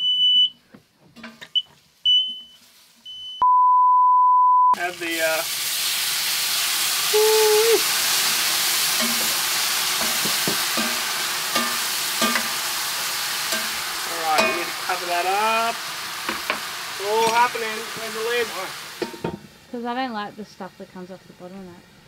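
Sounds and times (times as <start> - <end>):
food sizzling in a pan: 2.0 - 3.2, 4.8 - 22.0.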